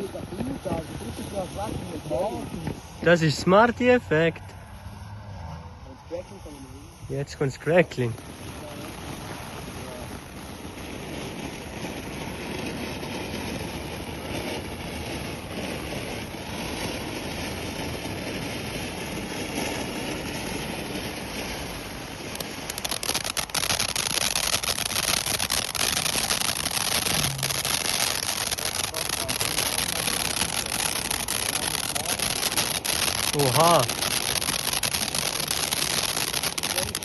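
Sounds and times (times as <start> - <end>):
firework fountain hissing: 0.0 - 5.1, 5.7 - 37.0
firework crackling: 0.0 - 37.0.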